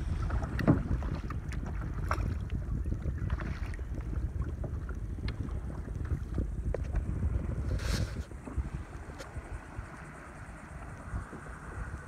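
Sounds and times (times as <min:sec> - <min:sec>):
small waves lapping against hull: 0:00.0 - 0:12.0
wind rumbling on microphone: 0:00.0 - 0:12.0.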